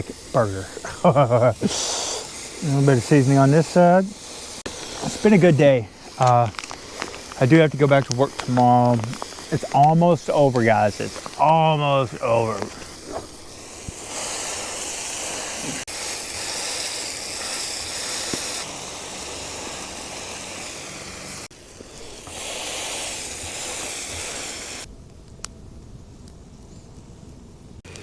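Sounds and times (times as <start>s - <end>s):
burger patty sizzling in a frying pan: 0.0s - 24.9s.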